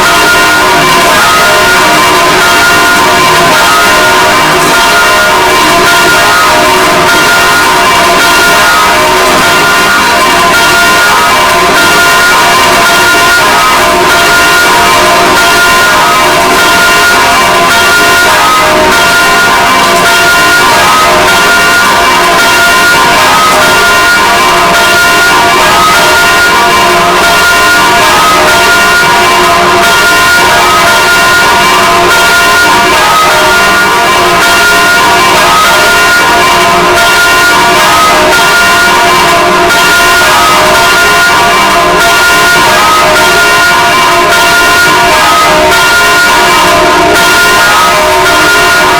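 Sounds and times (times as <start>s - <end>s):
church bells ringing: 0.0s - 48.9s.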